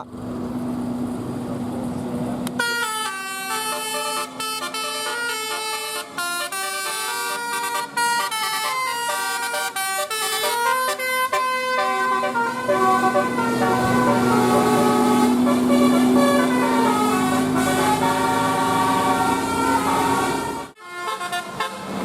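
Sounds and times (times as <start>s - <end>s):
multi-note air horn melody: 2.6s - 22.0s.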